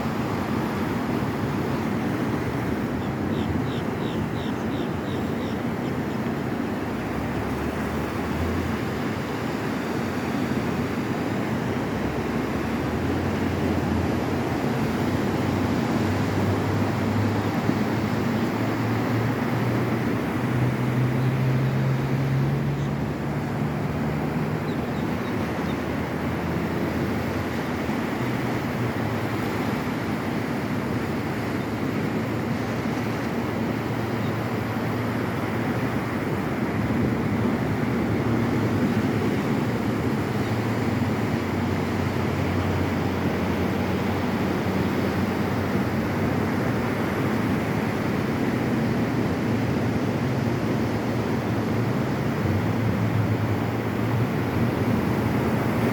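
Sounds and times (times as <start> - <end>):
ocean surf: 0.0 - 55.9
wind: 0.0 - 55.9.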